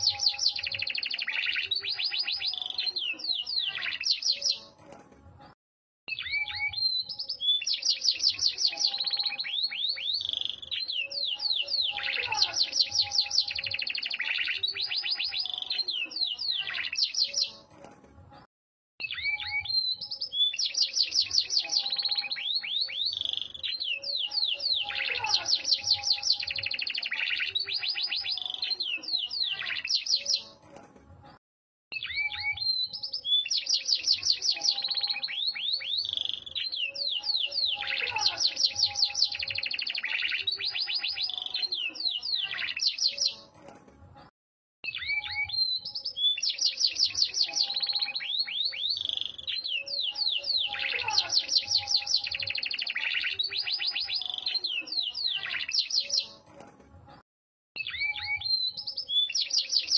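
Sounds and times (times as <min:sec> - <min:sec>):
canary singing trills: 0:00.0 - 0:04.8, 0:06.1 - 0:17.7, 0:19.0 - 0:30.6, 0:31.9 - 0:43.5, 0:44.8 - 0:56.4, 0:57.8 - 0:59.9.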